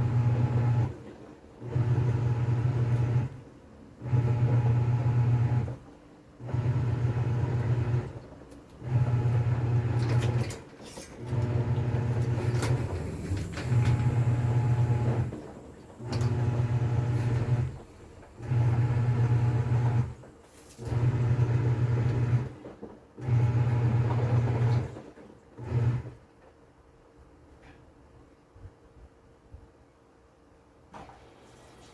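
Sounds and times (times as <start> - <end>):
washing machine agitating: 0.0 - 26.2.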